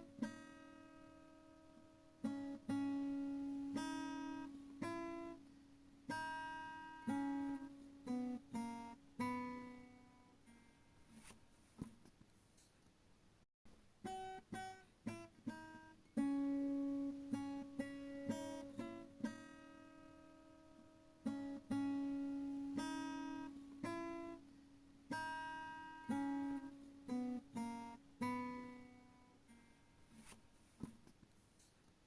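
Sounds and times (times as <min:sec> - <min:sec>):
acoustic guitar plucked melody: 0:00.0 - 0:11.9, 0:13.9 - 0:31.0.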